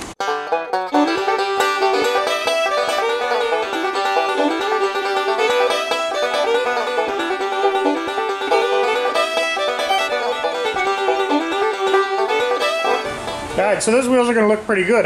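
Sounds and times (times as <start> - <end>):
instrumental music with plucked strings: 0.2 - 13.8.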